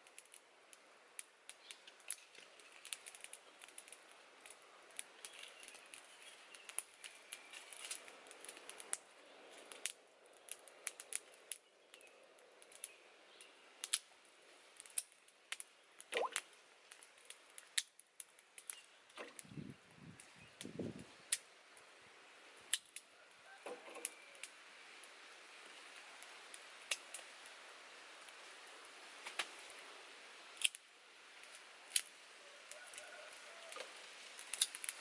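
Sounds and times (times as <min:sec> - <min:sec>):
faint hiss: 0:00.0 - 0:35.0
wood fire crackling: 0:00.0 - 0:35.0.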